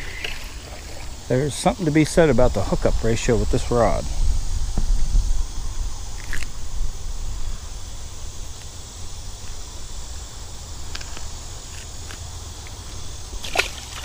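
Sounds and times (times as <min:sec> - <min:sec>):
high hiss: 0:00.0 - 0:14.0.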